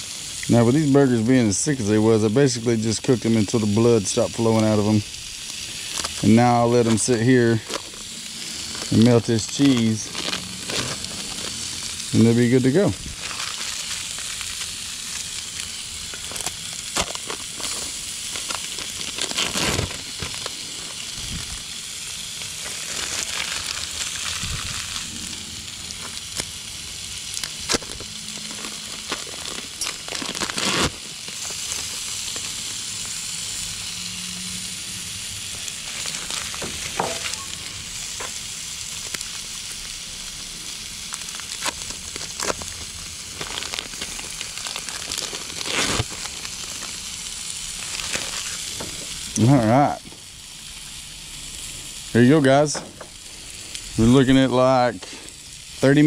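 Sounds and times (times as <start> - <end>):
burger patties sizzling: 0.0 - 56.0
plastic wrappers rustling: 0.5 - 33.9, 35.1 - 50.3.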